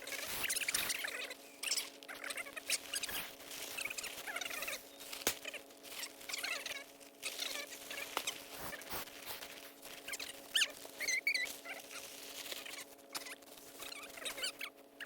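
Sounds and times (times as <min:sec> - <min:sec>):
faint steady hum: 0:00.0 - 0:15.0
tent fabric rustling: 0:00.1 - 0:14.6.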